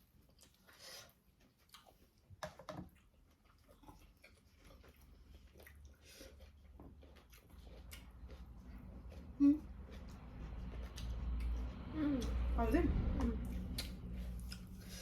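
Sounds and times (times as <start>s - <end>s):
person chewing food: 0.0s - 12.6s, 13.4s - 15.0s.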